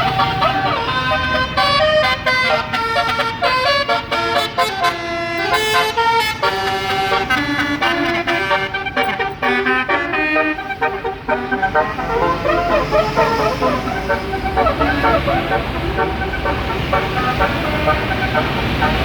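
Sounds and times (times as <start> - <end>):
bus air horn melody: 0.0 - 19.0.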